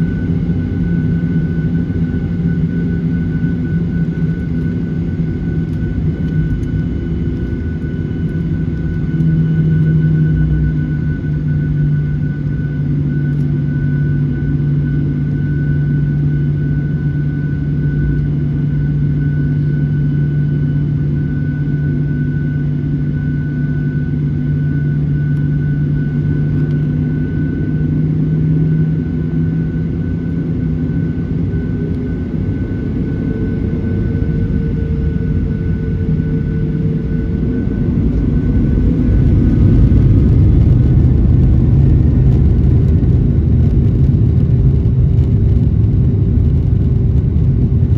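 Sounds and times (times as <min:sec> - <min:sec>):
jet engine cabin hum: 0:00.0 - 0:47.9.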